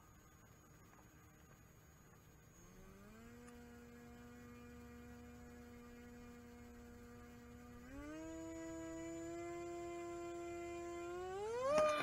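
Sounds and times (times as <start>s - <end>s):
electric motor and propeller hum: 0.0s - 12.0s.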